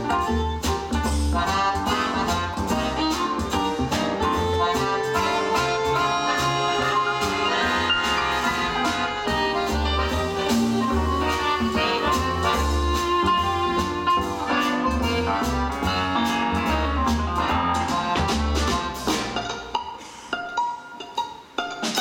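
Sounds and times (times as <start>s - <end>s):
accordion: 0.0s - 19.8s
plucked double bass: 0.0s - 22.0s.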